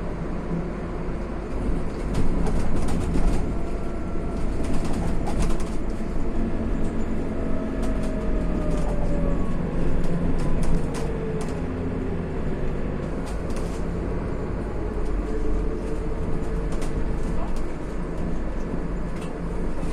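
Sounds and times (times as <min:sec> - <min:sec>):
bus engine and road rumble: 0:00.0 - 0:19.9
rattles from bus body: 0:01.0 - 0:19.9.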